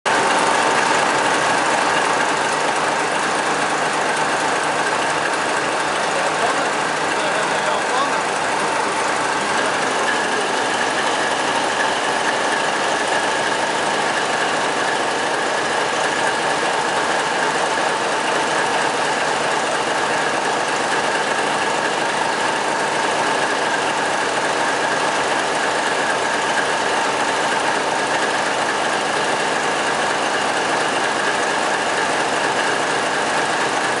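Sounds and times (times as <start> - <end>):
engine droning: 0.1 - 34.0.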